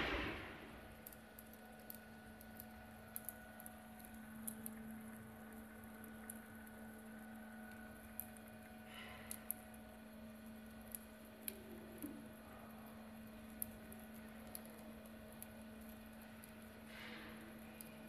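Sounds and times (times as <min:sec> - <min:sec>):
mill drive humming: 0:00.0 - 0:18.0.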